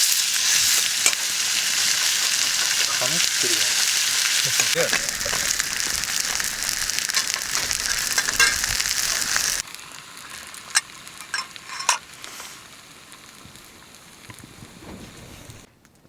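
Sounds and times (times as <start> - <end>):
food sizzling in a pan: 0.0 - 15.7.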